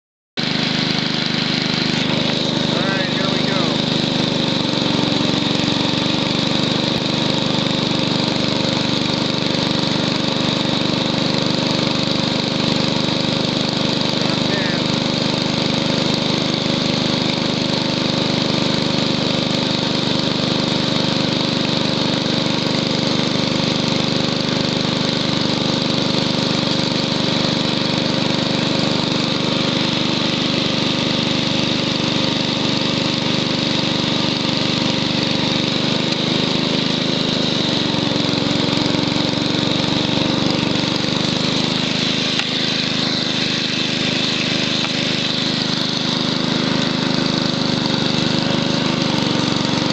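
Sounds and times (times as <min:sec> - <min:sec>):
small engine running under load: 0:00.4 - 0:49.9.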